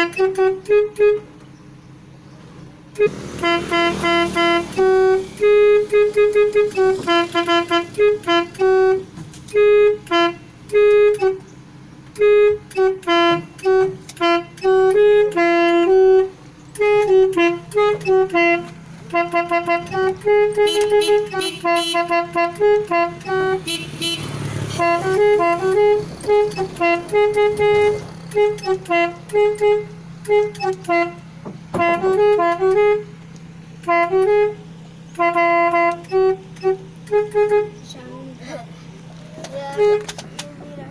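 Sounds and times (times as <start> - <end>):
multi-tone bus horn tune: 0.0 - 40.9.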